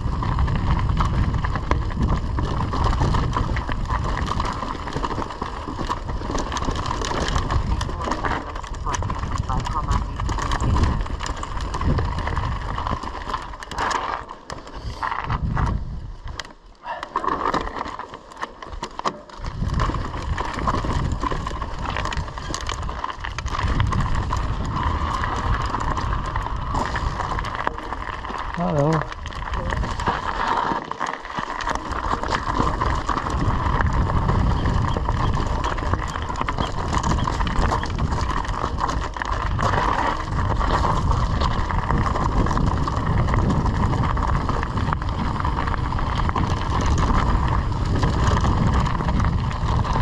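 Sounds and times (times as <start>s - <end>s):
wind on microphone: 0.0s - 13.4s, 15.2s - 16.2s, 19.5s - 30.3s, 32.0s - 50.0s
bike rattling: 0.0s - 50.0s
tyres crunching on loose stones: 0.0s - 50.0s.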